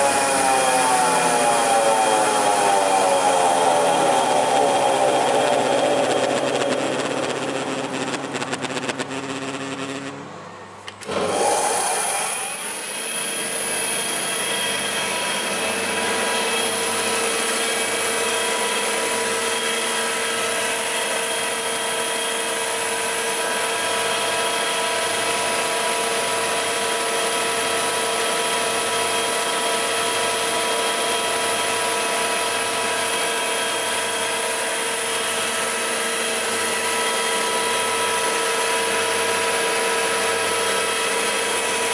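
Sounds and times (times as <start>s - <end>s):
woodworking machine humming and whining: 0.0s - 41.9s.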